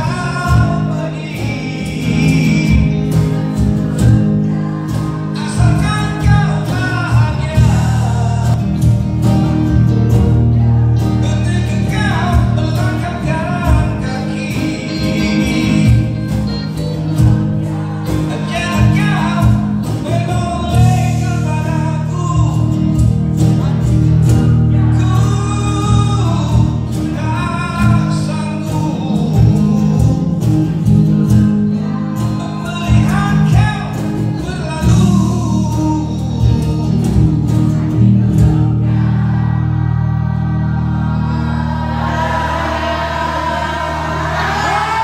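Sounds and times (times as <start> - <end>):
guitar: 0.0 - 45.0
heavy bass: 0.0 - 45.0
man singing: 0.0 - 45.0.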